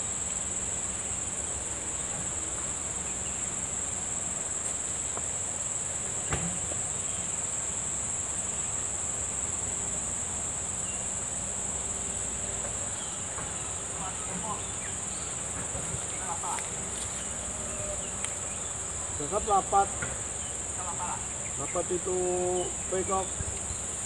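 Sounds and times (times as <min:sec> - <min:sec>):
insects shrilling: 0:00.0 - 0:24.0.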